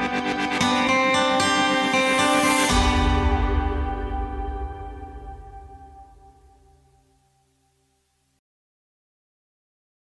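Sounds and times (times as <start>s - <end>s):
background music: 0.0s - 8.1s.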